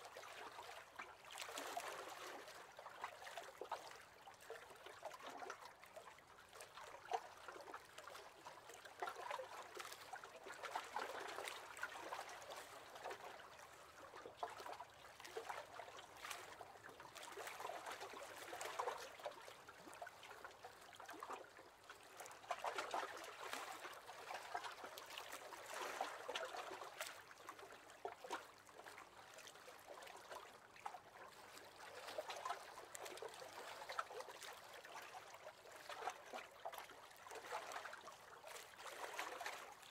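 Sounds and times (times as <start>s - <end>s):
waves lapping against boat hull: 0.2s - 39.9s.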